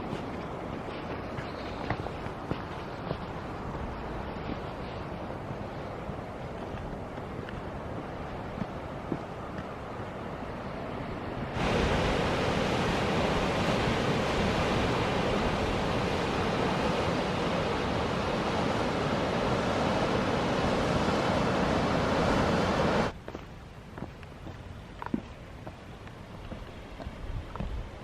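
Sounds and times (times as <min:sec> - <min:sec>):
loud rush of moving water: 0:00.0 - 0:23.2.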